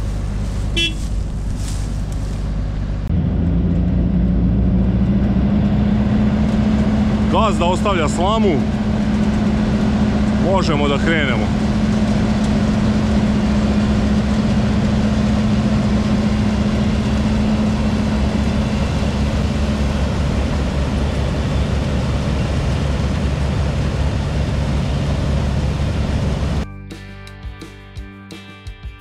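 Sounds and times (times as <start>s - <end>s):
combine harvester engine rumble: 0.0s - 26.6s.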